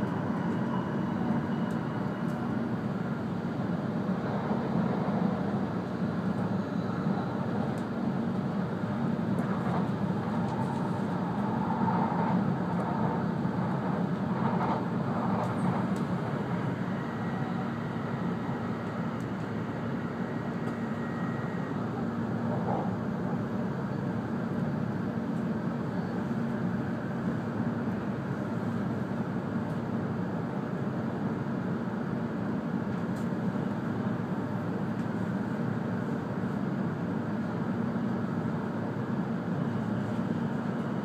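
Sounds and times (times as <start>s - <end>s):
train rumble inside cabin: 0.0s - 41.0s.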